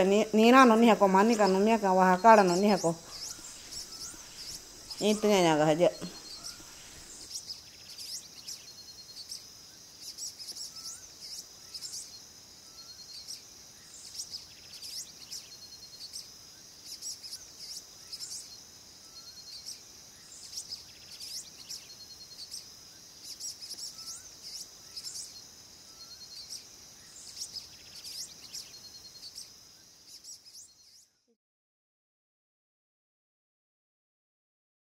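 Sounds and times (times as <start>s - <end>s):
short chirping calls: 0.0s - 9.4s, 10.0s - 31.1s
high-pitched insect drone: 0.0s - 30.8s.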